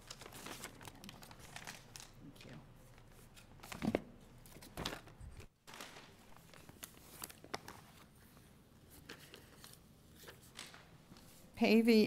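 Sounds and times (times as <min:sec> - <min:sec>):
paper rustling: 0:00.0 - 0:02.2, 0:02.9 - 0:11.4.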